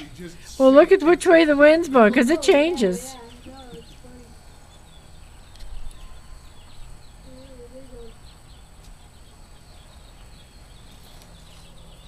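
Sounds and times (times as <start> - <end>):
small birds chirping: 0.0 - 12.0
wavering hum: 0.0 - 12.0.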